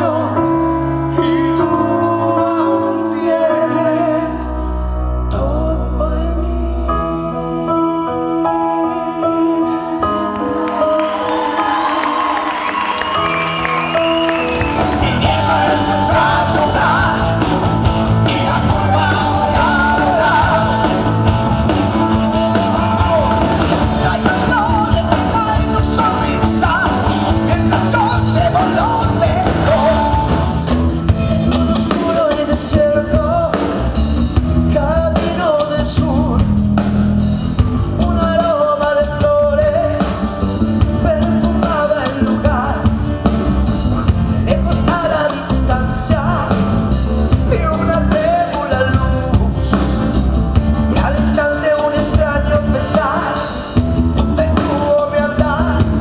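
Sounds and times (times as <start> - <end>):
man singing: 0.0 - 11.2, 14.7 - 36.9, 37.7 - 56.0
electric guitar: 9.4 - 56.0
drums: 10.4 - 56.0.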